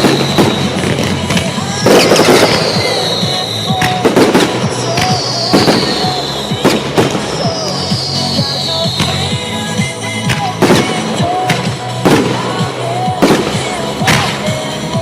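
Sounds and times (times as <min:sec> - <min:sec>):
fireworks bangs and crackles: 0:00.0 - 0:15.0
pop music: 0:00.0 - 0:15.0.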